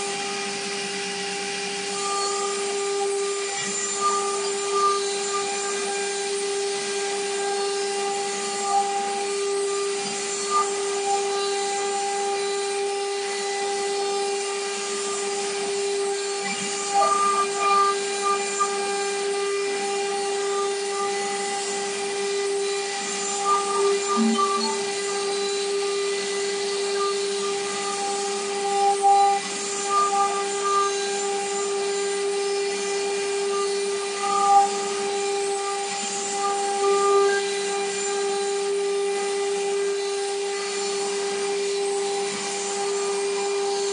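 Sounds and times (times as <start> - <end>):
cutter grinding through stone: 0.0 - 43.9
router spindle whining: 0.0 - 43.9.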